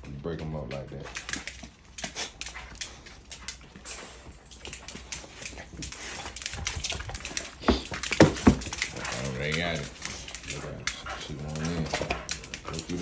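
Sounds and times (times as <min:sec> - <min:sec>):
dog claws scrabbling on wood floor: 0:00.0 - 0:13.0.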